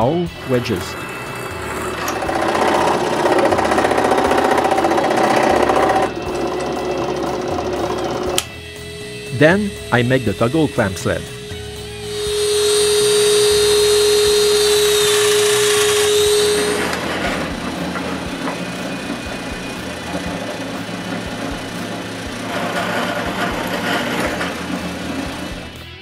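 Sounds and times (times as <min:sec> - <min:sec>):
rough low machine running: 0:00.0 - 0:26.0
power tool whining cutting wood: 0:00.3 - 0:26.0.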